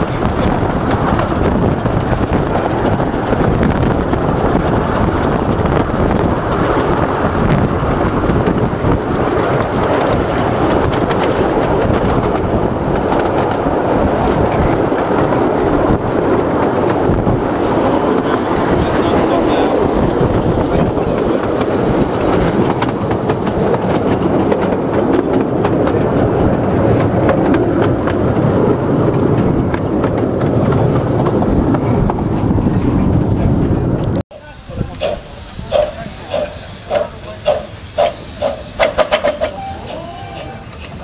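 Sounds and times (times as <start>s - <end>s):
miniature train rumbling: 0.0s - 41.0s
wheels clicking over rail joints: 0.0s - 41.0s.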